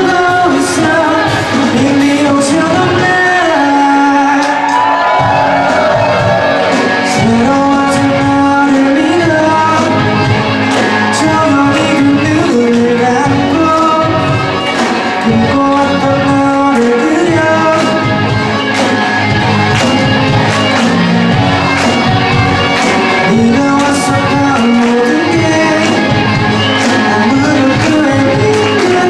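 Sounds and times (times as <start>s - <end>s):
person singing: 0.0s - 18.6s, 20.8s - 29.0s
live rock band playing: 0.0s - 29.0s.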